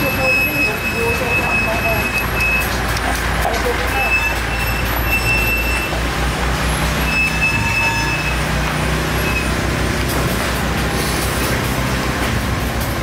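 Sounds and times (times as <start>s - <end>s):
engine running close by: 0.0s - 13.0s
street traffic noise: 0.0s - 13.0s.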